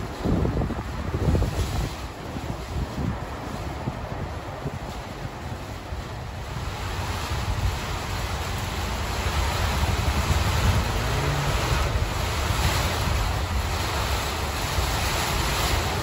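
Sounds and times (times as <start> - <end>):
gusty wind on microphone: 0.0 - 16.0
rain falling: 0.0 - 16.0.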